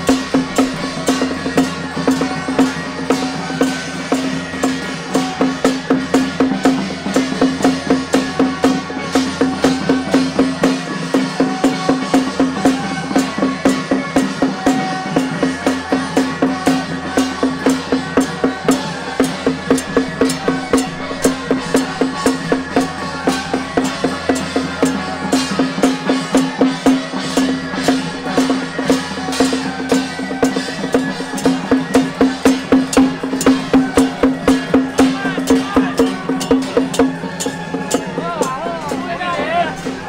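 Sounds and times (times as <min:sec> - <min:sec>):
drums beating fast rhythm: 0:00.0 - 0:40.0.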